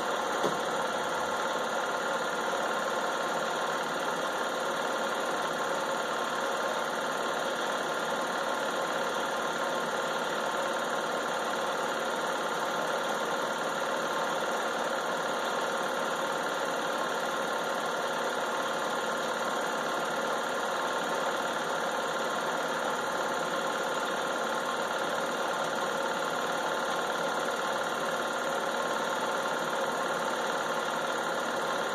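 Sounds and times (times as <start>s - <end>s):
film projector running: 0.0s - 31.9s.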